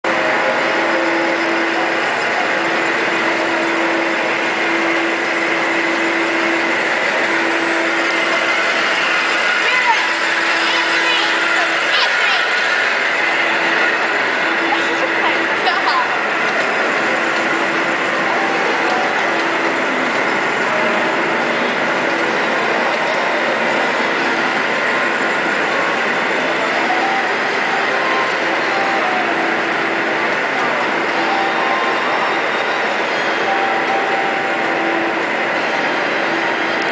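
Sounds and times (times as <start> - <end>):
constant hum: 0.0 - 36.9
miniature train mechanical whirring: 0.1 - 36.9.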